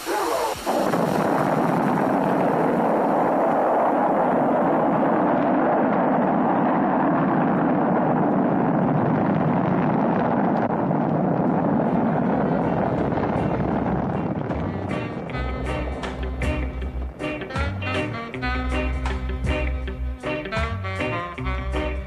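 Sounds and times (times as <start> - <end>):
loud rushing exhaust: 0.8 - 22.0.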